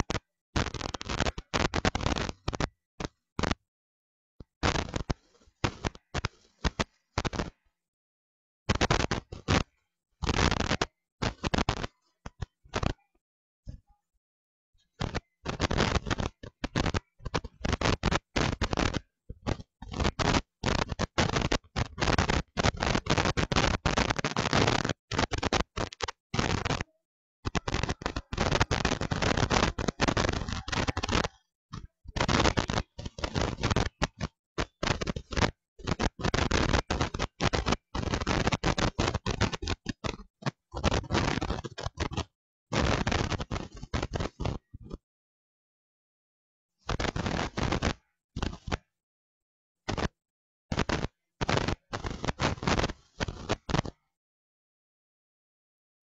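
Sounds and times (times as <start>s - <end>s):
loud crackling noise: 0.0s - 3.6s, 4.5s - 7.6s, 8.7s - 13.0s, 15.0s - 44.7s, 46.9s - 48.8s, 49.9s - 54.0s.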